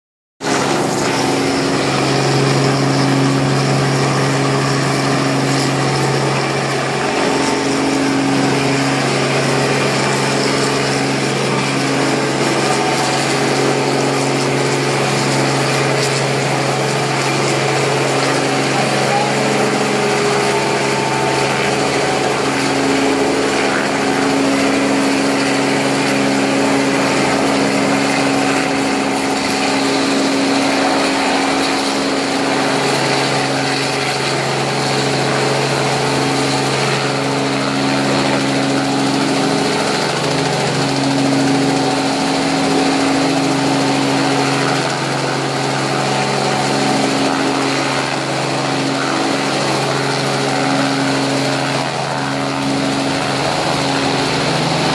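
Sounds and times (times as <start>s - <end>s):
helicopter engine and rotor drone: 0.4s - 54.9s.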